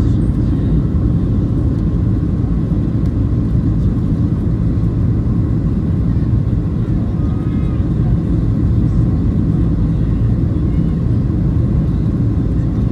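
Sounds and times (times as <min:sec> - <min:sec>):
airplane cabin engine rumble: 0:00.0 - 0:12.9.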